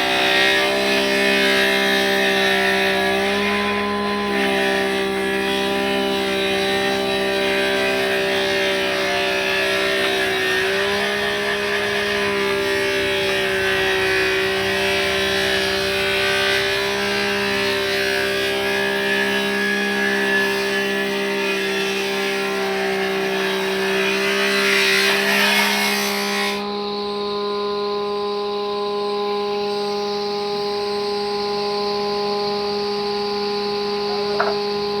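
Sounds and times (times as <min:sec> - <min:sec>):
power saw cutting wood: 0:00.0 - 0:27.0, 0:28.6 - 0:35.0
saw motor hum: 0:00.0 - 0:35.0.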